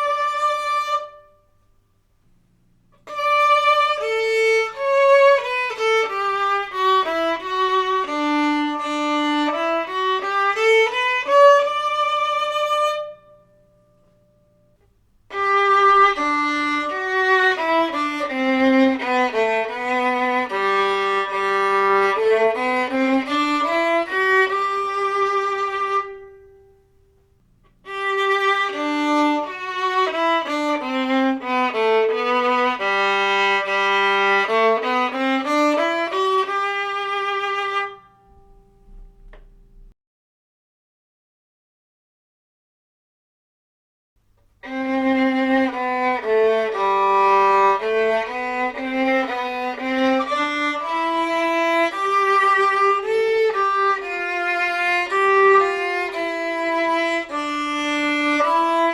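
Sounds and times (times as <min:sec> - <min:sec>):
solo violin bowed: 0:00.0 - 0:01.6, 0:03.0 - 0:14.2, 0:15.3 - 0:39.5, 0:44.6 - 0:58.9.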